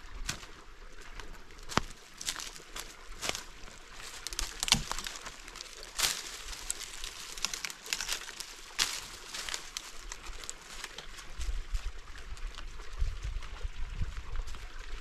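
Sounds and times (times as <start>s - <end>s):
footsteps on dry leaves and stones: 0.0s - 15.0s.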